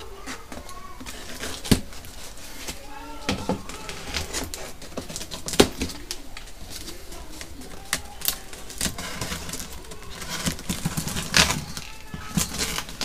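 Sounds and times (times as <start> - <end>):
cardboard handling noises: 0.0 - 13.0.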